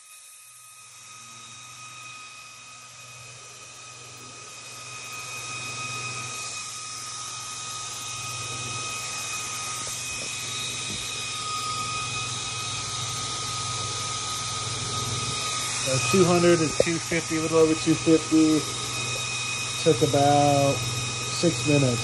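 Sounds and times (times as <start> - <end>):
compressor cooling fan whirring: 0.7 - 22.0.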